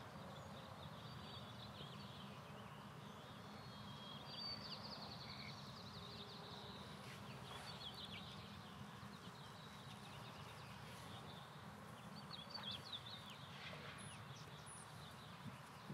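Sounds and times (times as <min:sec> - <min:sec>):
songbird chirping: 0:00.0 - 0:15.9.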